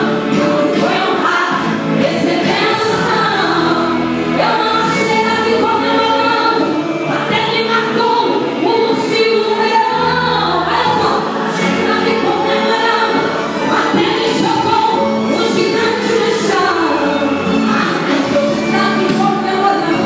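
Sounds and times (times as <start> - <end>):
instrumental accompaniment: 0.0 - 20.0
many voices singing: 0.0 - 20.0
woman singing into microphone: 0.0 - 20.0.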